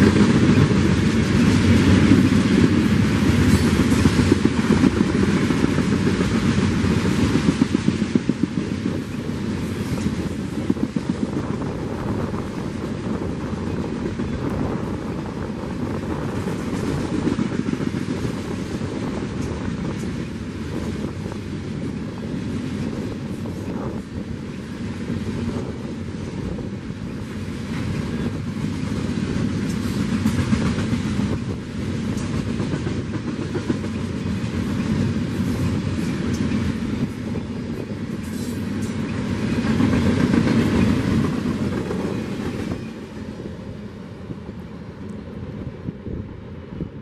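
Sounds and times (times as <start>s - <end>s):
clickety-clack at rail joints: 0.0s - 47.0s
steel train wheels on rails: 0.0s - 47.0s.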